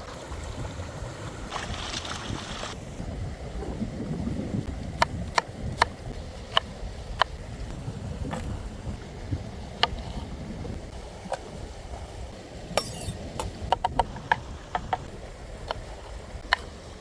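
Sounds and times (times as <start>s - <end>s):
steady low rumble: 2.7s - 17.0s.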